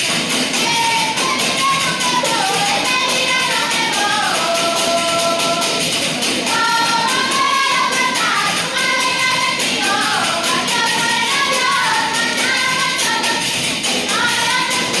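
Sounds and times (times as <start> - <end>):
jingle tambourines beat: 0.0 - 15.0
women singing together: 0.4 - 15.0.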